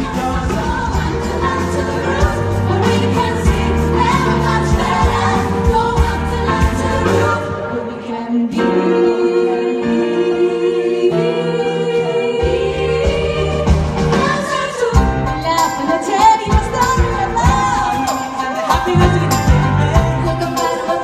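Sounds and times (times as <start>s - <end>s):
female vocal group singing harmony: 0.0s - 21.0s.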